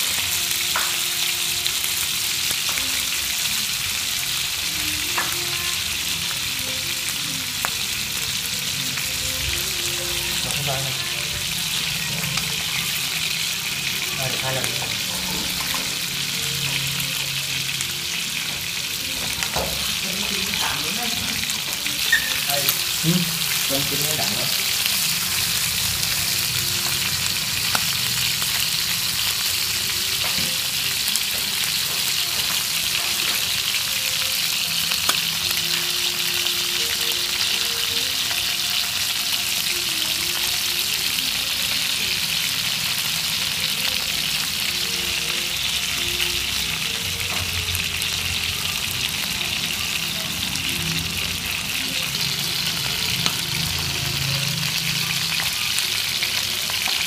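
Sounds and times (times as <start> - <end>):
meat sizzling in oil: 0.0 - 57.0.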